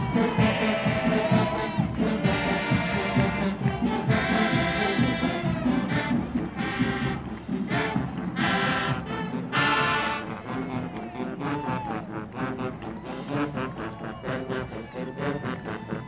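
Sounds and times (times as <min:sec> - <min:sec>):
brass phrases: 0:00.0 - 0:16.0
drumline beat: 0:00.0 - 0:16.0.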